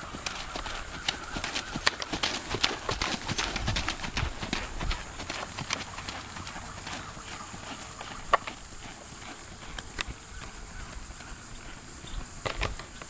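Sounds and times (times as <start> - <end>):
horse hoofbeats: 0.0 - 12.9.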